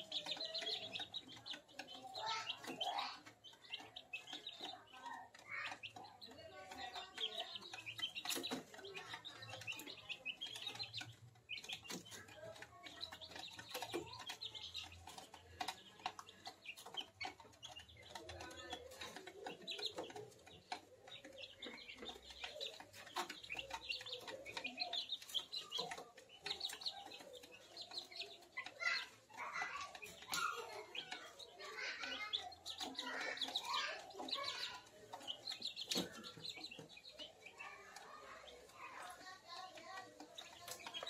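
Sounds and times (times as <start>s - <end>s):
chicks peeping and chirping: 0.0s - 41.0s.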